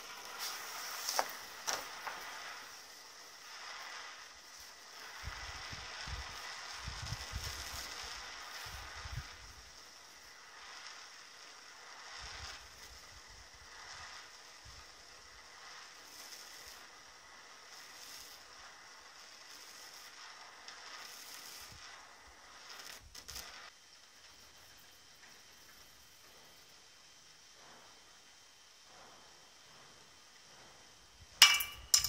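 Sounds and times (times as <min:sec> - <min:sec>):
blow torch hissing: 0:00.0 - 0:32.0.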